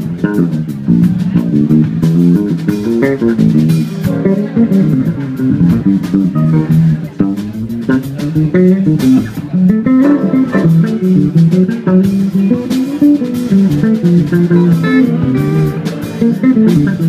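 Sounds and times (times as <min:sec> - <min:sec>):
drum kit: 0:00.0 - 0:17.0
electric bass funk solo: 0:00.0 - 0:17.0.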